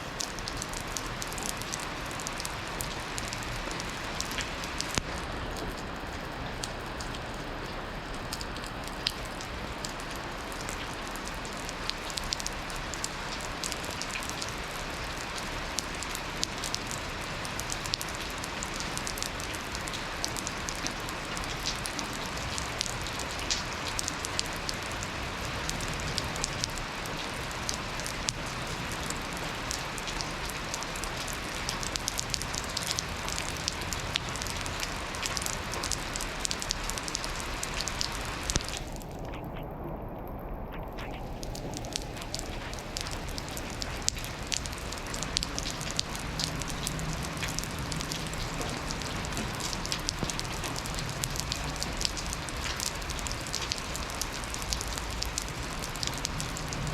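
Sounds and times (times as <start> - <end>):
rain falling: 0.0 - 56.9
raindrops ticking on hard surfaces: 0.0 - 56.9.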